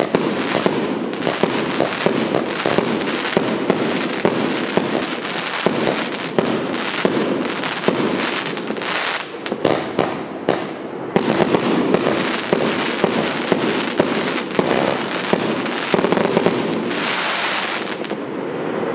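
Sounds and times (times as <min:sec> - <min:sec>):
firework shots and bangs: 0:00.0 - 0:18.2
firework crackle: 0:00.0 - 0:18.9.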